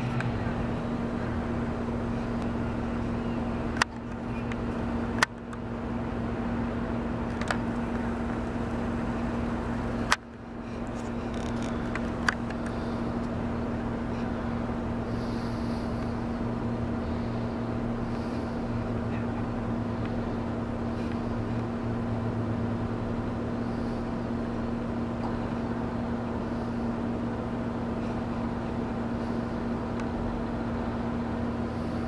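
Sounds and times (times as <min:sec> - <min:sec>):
engine idling: 0:00.0 - 0:32.0.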